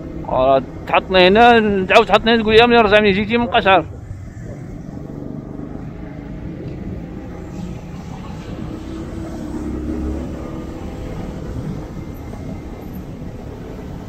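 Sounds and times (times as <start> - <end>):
motorcycle engine drone: 0.0 - 14.0
road and wind rumble: 0.0 - 14.0.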